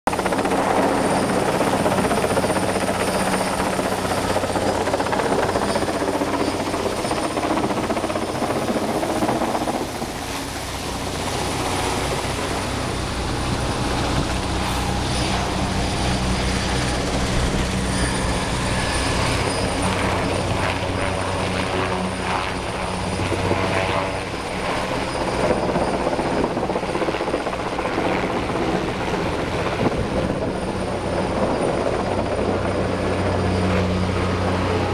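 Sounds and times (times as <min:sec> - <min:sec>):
helicopter flying overhead: 0:00.1 - 0:34.9.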